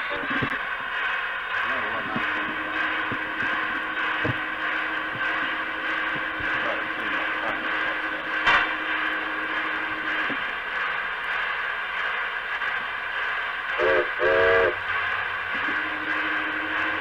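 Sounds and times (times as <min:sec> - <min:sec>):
steady electronic hiss: 0:00.0 - 0:17.0
low hum: 0:00.1 - 0:17.0.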